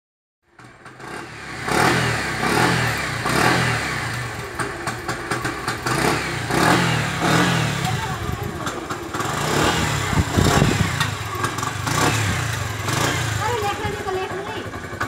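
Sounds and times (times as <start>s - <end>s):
motorcycle engine revving: 0.5s - 15.0s.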